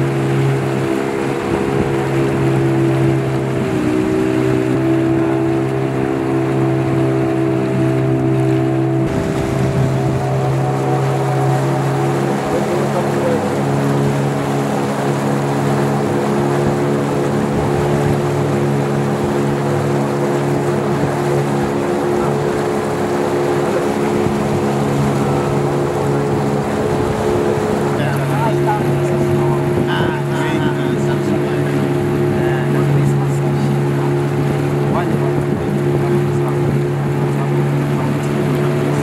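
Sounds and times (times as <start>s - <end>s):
motorboat engine running: 0.0s - 39.0s
rush of wind and water: 0.0s - 39.0s.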